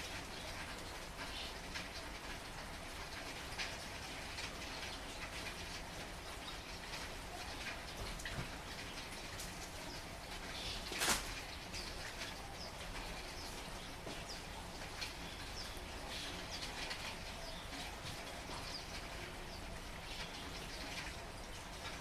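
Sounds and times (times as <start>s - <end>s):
heavy rainfall: 0.0s - 22.0s.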